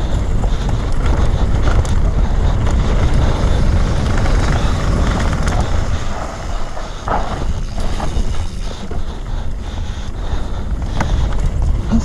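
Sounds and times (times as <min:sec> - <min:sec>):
motorcycle engine rumbling: 0:00.0 - 0:12.0
wind buffeting microphone: 0:00.0 - 0:12.0.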